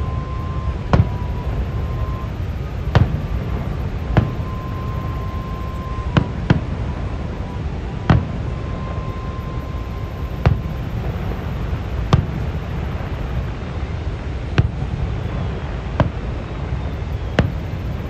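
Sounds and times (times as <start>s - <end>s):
fireworks bangs: 0.0s - 13.6s, 14.2s - 18.0s
low rumble: 0.0s - 18.0s.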